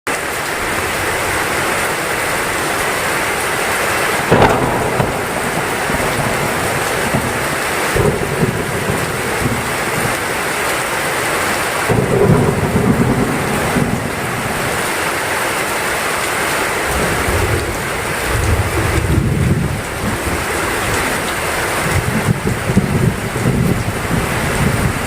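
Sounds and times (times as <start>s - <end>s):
heavy rain pouring: 0.1s - 25.0s
thunder rumbling: 2.4s - 16.0s, 16.9s - 25.0s.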